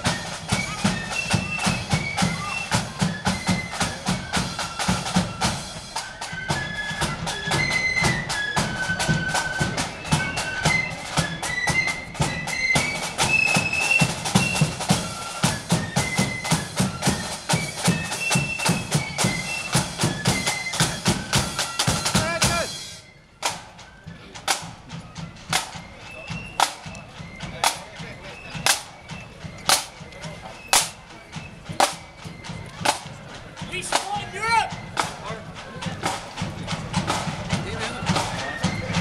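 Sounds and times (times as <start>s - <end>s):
flute tune: 0.0s - 39.0s
snare and bass drum beats: 0.0s - 39.0s.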